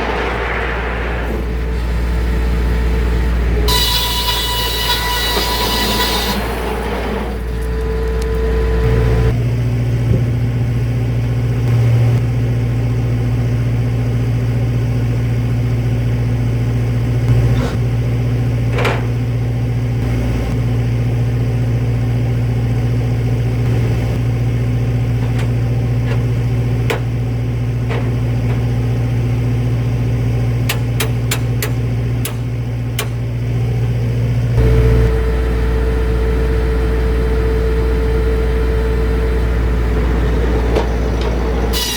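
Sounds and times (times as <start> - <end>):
circular sawmill deep hum: 0.0 - 41.9.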